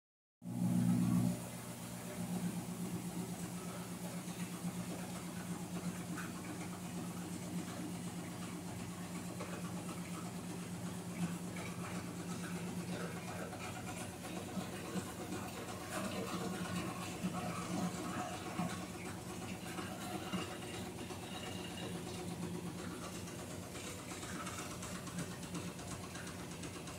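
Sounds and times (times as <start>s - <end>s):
washing machine motor hum: 0.4s - 26.9s.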